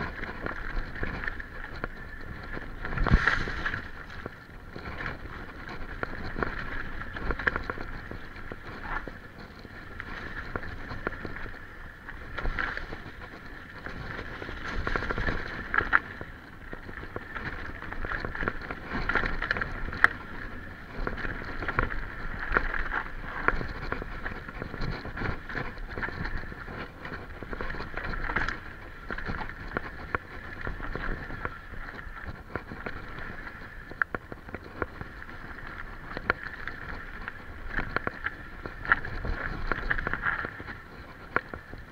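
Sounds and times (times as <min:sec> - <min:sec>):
tyres rolling on dirt and stones: 0:00.0 - 0:41.9
wind on microphone: 0:00.0 - 0:41.9.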